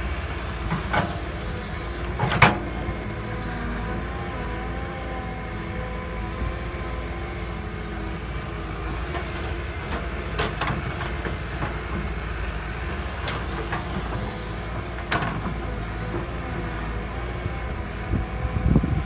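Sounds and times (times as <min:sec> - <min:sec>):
heavy machine engine running: 0:00.0 - 0:19.0.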